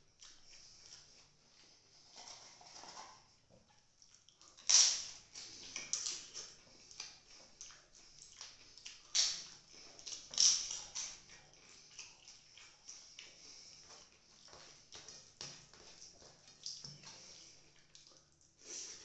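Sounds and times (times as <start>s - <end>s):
papadum crunching while chewed: 0.0s - 18.9s.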